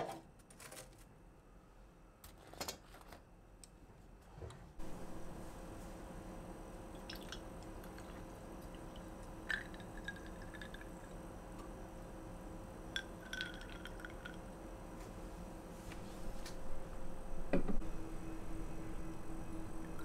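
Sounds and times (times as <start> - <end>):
steady low hum: 3.2 - 20.0.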